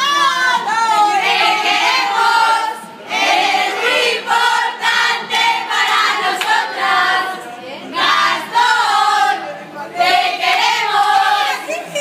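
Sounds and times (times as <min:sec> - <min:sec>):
women singing in chorus: 0:00.0 - 0:12.0.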